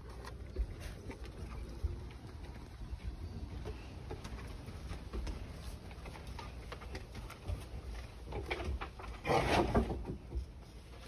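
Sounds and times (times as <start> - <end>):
puppy chewing rope toy: 0.0 - 9.2.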